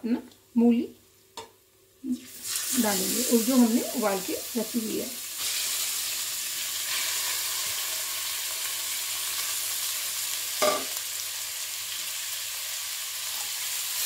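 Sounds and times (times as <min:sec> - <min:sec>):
vegetables sizzling in oil: 0:02.0 - 0:14.0.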